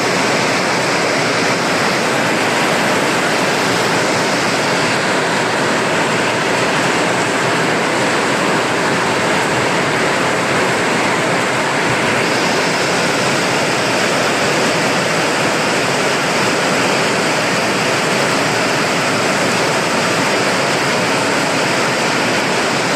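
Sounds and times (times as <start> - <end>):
heavy rain splashing: 0.0 - 22.9.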